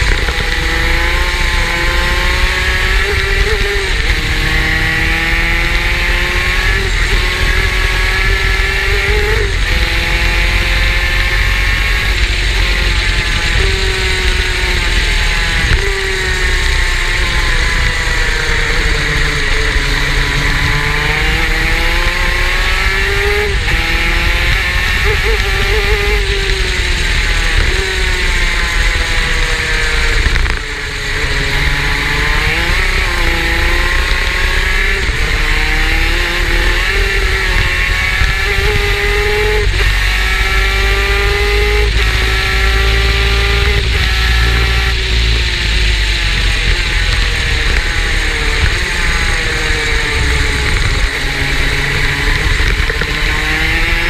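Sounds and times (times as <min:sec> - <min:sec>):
racing kart engine revving: 0:00.0 - 0:54.0.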